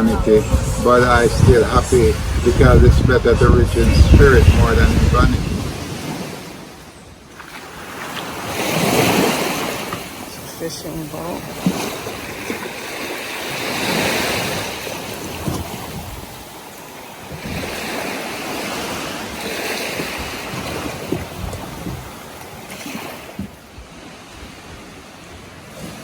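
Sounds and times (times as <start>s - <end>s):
waves breaking: 0.0s - 26.0s
wind buffeting microphone: 0.0s - 26.0s.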